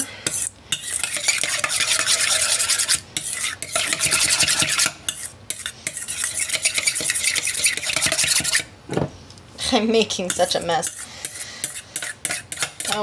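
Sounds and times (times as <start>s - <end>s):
whisk scraping metal bowl: 0.2s - 8.7s, 10.1s - 13.0s.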